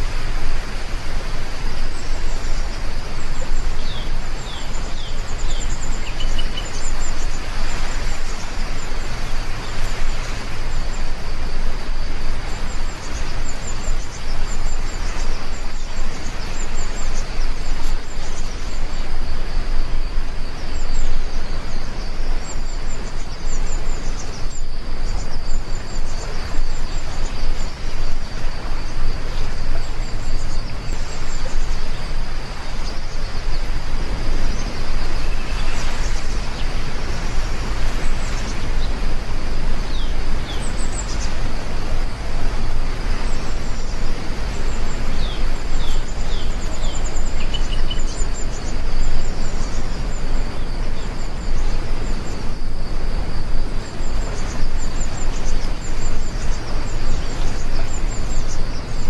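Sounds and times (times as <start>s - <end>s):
heavy rain hissing: 0.0s - 59.0s
birds chirping: 1.8s - 11.5s, 12.4s - 59.0s.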